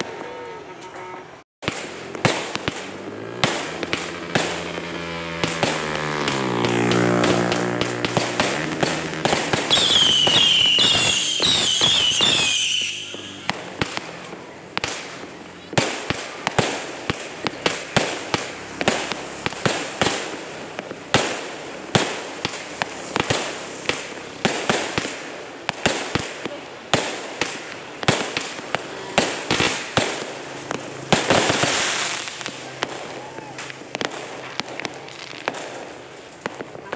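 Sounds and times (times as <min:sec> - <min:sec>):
fireworks bangs: 0:00.0 - 0:36.9
fireworks whistling: 0:00.1 - 0:36.9
fireworks crackle: 0:01.6 - 0:36.9.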